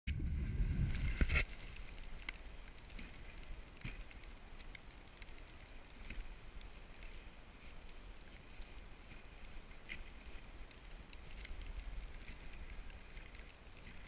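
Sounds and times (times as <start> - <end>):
small clicks and crackles: 0.1 - 14.0.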